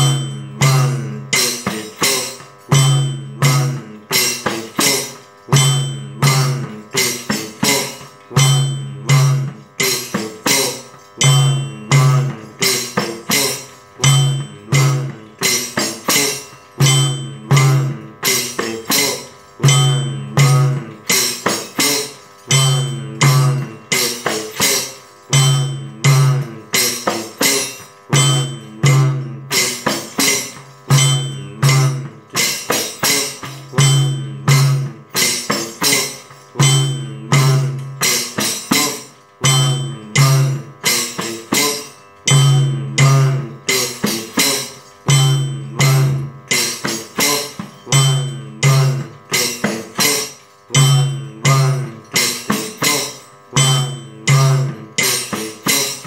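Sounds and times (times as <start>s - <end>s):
frame drum with jingles: 0.0s - 56.0s
metronome clicking: 0.0s - 56.0s.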